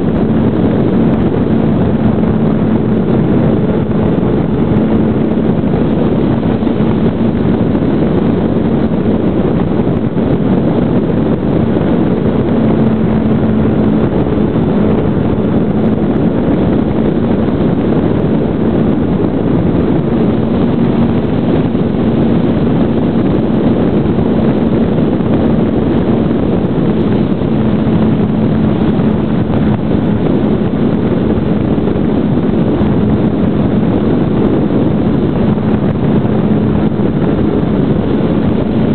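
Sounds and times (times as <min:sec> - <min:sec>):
electric motor and propeller hum: 0:00.0 - 0:38.9
wind rush on microphone: 0:00.0 - 0:38.9.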